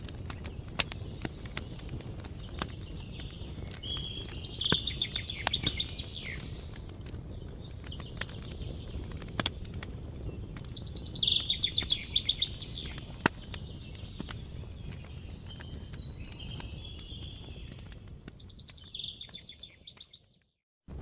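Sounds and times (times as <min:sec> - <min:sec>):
campfire crackling: 0:00.0 - 0:21.0
songbird singing trill: 0:00.1 - 0:09.6, 0:10.2 - 0:20.4.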